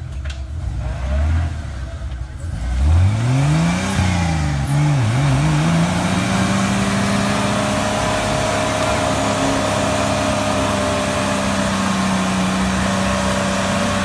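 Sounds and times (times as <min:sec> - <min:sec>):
engine revving hard: 0:00.6 - 0:01.9, 0:02.5 - 0:14.0.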